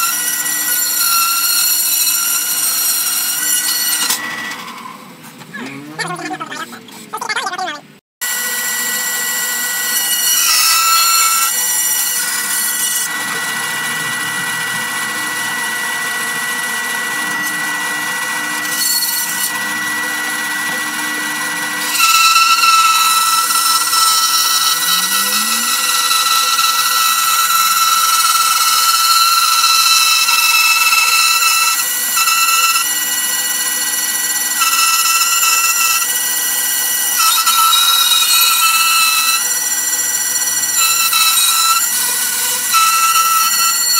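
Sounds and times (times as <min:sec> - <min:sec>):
bandsaw cutting wood: 0:00.0 - 0:06.8, 0:08.2 - 0:43.9
bandsaw motor whine: 0:00.0 - 0:07.3, 0:08.2 - 0:43.9.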